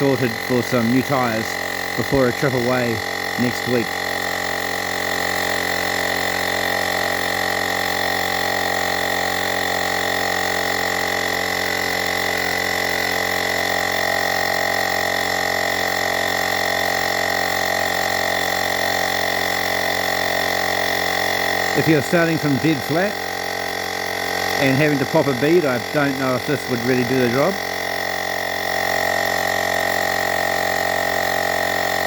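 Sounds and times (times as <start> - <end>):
tyre inflator motor whining: 0.0 - 32.0.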